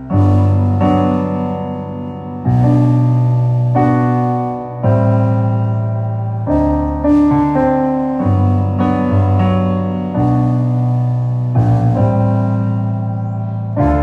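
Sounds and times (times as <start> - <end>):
piano chords over bass notes: 0.0 - 14.0.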